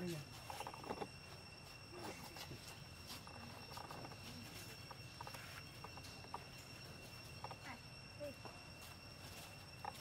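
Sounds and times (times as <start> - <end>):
faint chirps: 0.0 - 10.0
two-note insect drone: 0.0 - 10.0.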